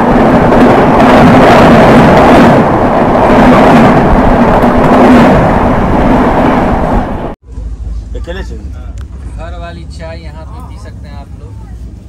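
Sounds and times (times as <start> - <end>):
passing train wheels rushing: 0.0 - 12.0.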